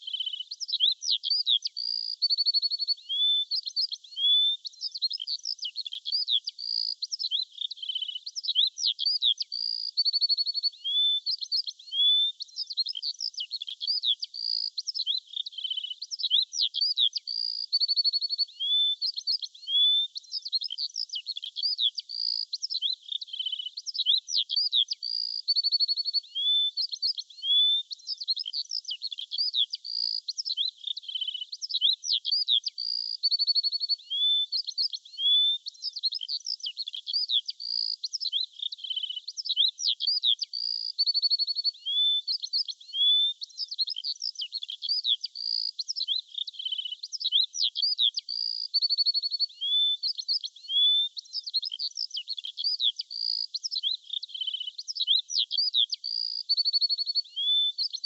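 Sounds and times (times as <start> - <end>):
songbirds chirping and whistling: 0.0 - 58.0.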